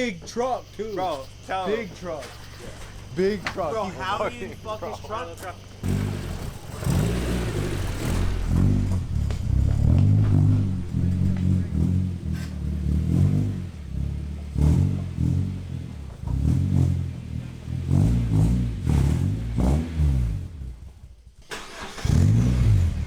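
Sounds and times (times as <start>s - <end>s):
car engine revving: 1.0s - 23.0s.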